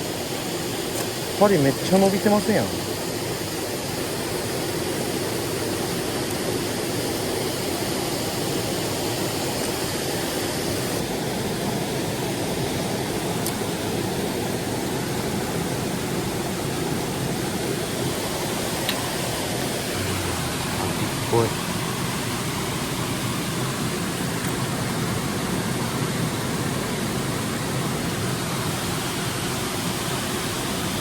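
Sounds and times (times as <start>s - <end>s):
stream water rushing: 0.0s - 31.0s.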